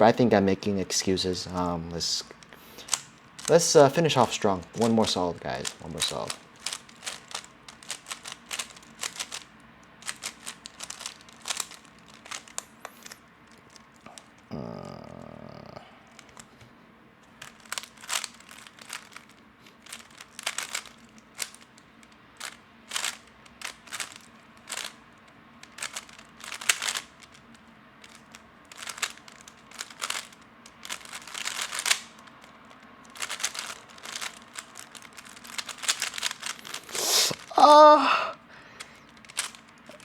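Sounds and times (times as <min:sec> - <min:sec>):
puzzle cube plastic clicks: 0:01.0 - 0:15.2, 0:16.1 - 0:16.6, 0:17.3 - 0:37.6, 0:38.8 - 0:40.0.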